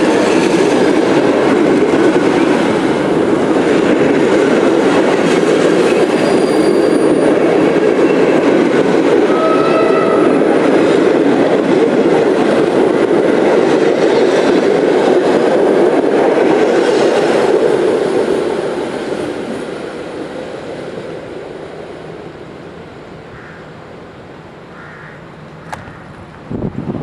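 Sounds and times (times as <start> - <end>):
train wheels rumbling on rails: 0.0 - 23.5, 24.2 - 27.0.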